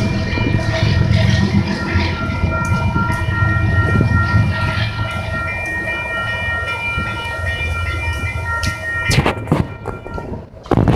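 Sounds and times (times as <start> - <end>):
crossing warning bell ringing: 0.0 - 10.9
freight train rumble: 0.0 - 10.9.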